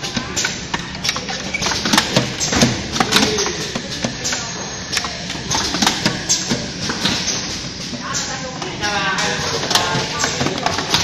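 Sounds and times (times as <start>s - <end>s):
machine clicks and clattering knocks: 0.0s - 11.0s.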